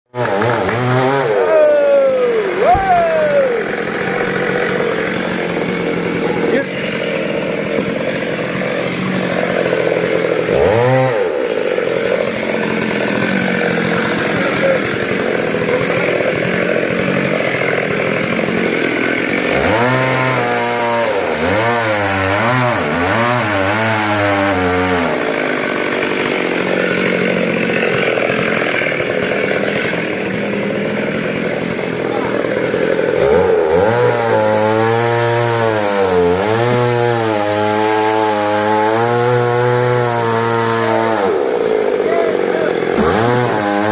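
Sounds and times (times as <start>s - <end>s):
chainsaw running: 0.1s - 43.9s.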